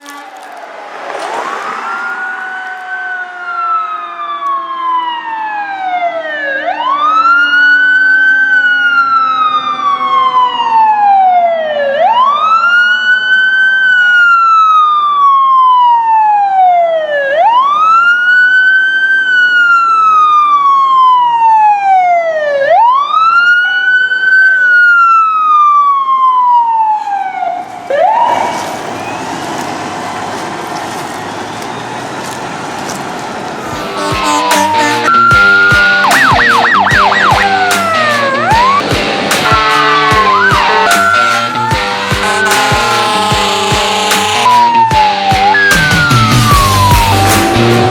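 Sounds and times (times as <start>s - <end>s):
fire engine siren wailing: 0.0s - 47.9s.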